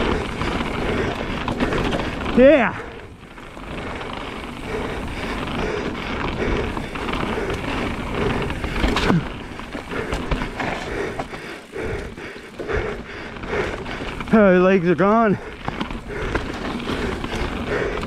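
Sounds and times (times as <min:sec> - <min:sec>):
bike knocking and rattling: 0:00.0 - 0:18.0
tyre noise on dirt and rock: 0:00.0 - 0:18.0.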